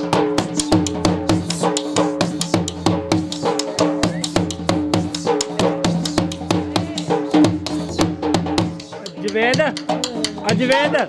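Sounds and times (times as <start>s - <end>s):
dhol drumming: 0.0s - 11.0s.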